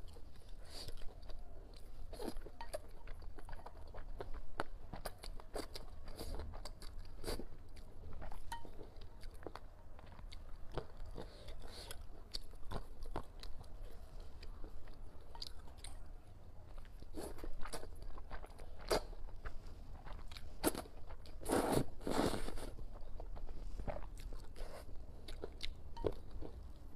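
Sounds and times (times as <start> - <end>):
person slurping and chewing noodles: 0.0 - 15.9, 16.7 - 26.9.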